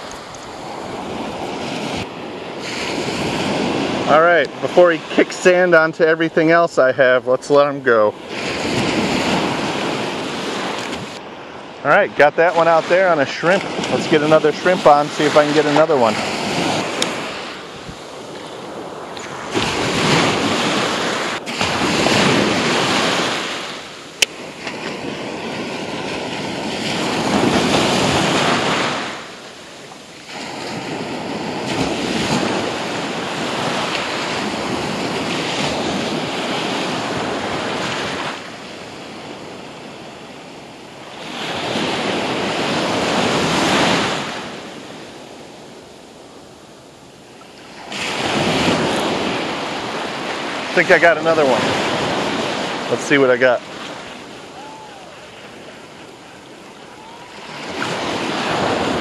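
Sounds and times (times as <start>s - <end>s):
wind on microphone: 0.0s - 7.1s, 7.8s - 46.6s, 47.7s - 59.0s
surf waves breaking on sand: 0.0s - 59.0s.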